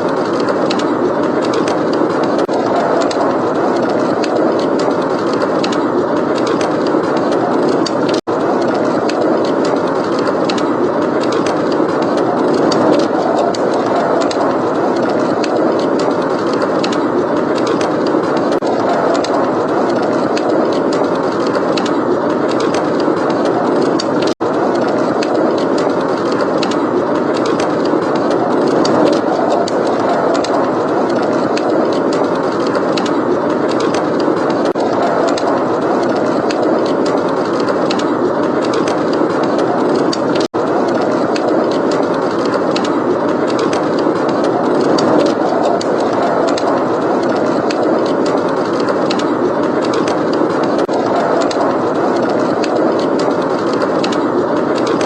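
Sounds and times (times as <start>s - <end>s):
blizzard wind rushing: 0.0s - 55.0s
wood fire crackling: 0.0s - 55.0s.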